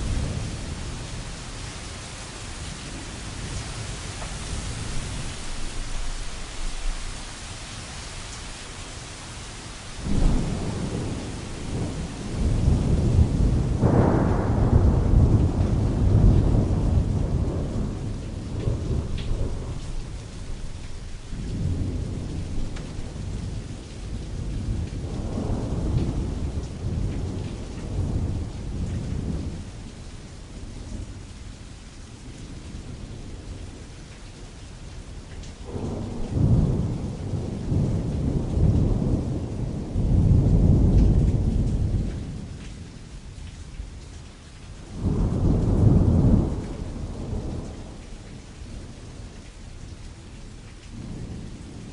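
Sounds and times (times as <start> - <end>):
distant rolling thunder: 0.0 - 7.4, 10.0 - 31.3, 35.1 - 43.2, 44.8 - 50.0, 50.8 - 51.9
rain pattering on canvas: 0.0 - 51.9.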